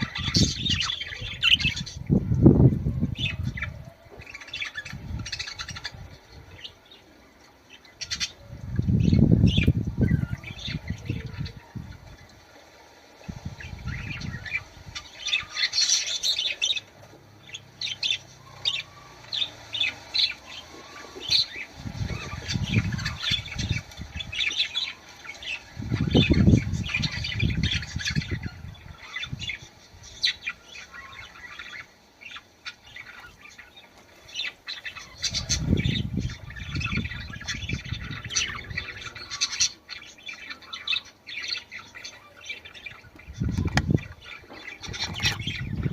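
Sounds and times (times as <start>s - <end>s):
budgerigars chirping: 0.0s - 2.1s, 3.1s - 6.8s, 7.7s - 11.5s, 13.3s - 45.9s.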